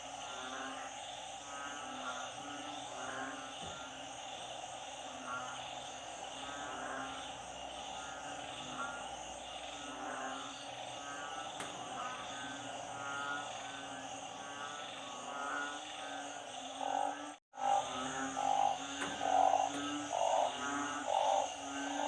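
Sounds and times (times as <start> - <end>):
frogs chorus: 0.0 - 22.0
frog trilling calls: 0.1 - 22.0.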